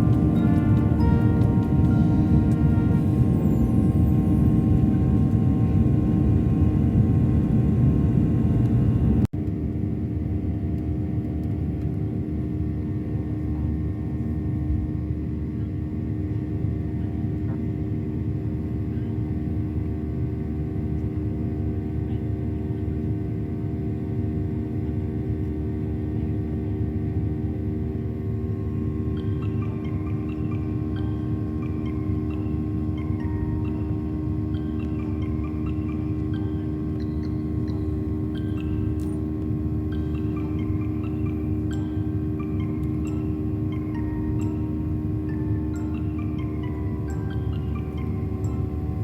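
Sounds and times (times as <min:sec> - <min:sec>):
steady tonal hum: 0:00.0 - 0:09.3, 0:12.1 - 0:49.0
airliner cabin engine rumble: 0:00.0 - 0:49.0.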